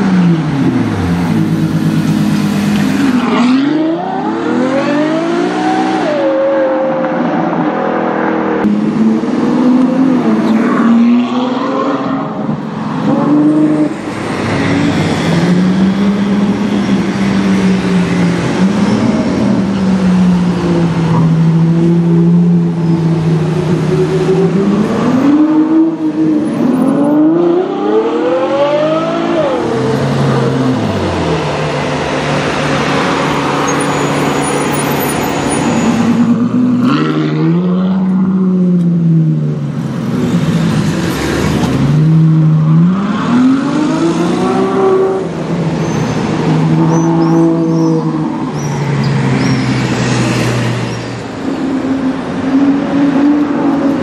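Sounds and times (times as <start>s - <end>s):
car engine revving: 0.0s - 16.8s, 17.4s - 54.0s.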